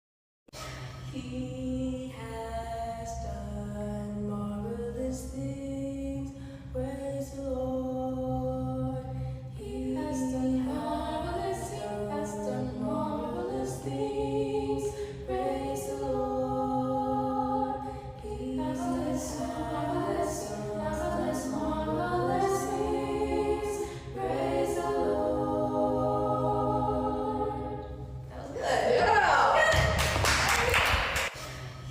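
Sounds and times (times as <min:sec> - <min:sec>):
group singing vocal warm-ups: 0:00.6 - 0:29.8.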